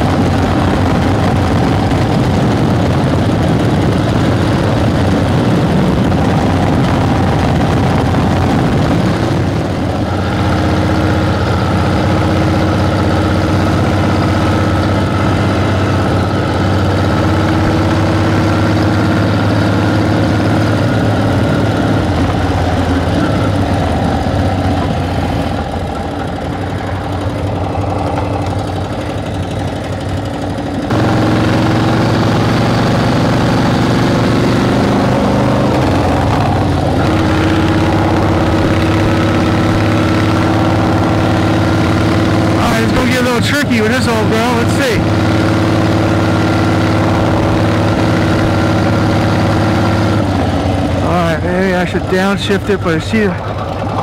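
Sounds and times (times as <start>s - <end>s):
motorcycle engine pulling uphill: 0.0s - 54.0s.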